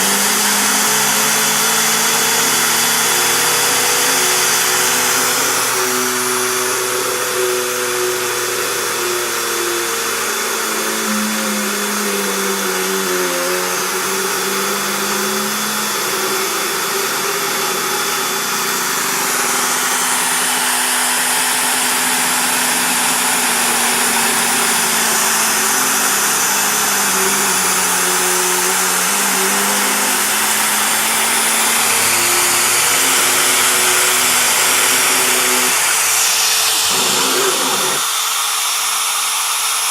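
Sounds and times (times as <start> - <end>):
motor tones gliding in pitch: 0.0 - 38.2
machine rushing whir: 0.0 - 38.4.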